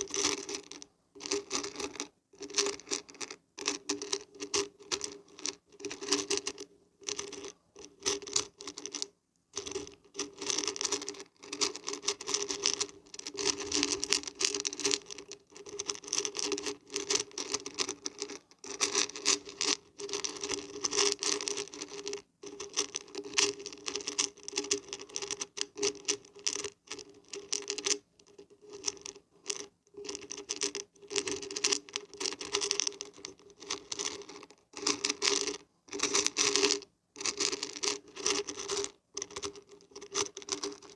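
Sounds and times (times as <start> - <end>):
dried beans rattling: 0.0 - 40.9.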